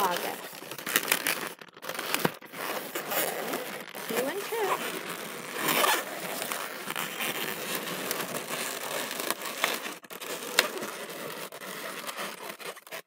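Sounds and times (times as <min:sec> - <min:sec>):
balloons rubbing and crinkling: 0:00.0 - 0:13.0.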